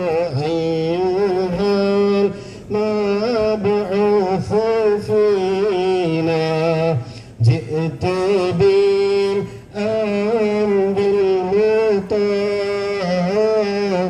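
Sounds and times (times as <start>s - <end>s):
person singing devotional chant: 0.0s - 14.0s.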